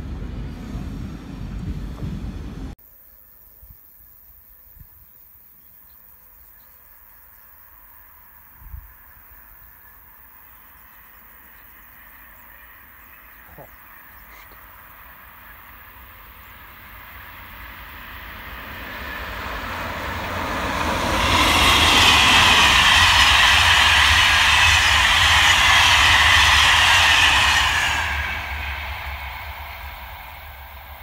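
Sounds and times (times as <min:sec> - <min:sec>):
train passing at speed: 0:00.0 - 0:02.8, 0:06.8 - 0:31.0
wheels rushing on rail: 0:00.0 - 0:02.8, 0:06.4 - 0:31.0.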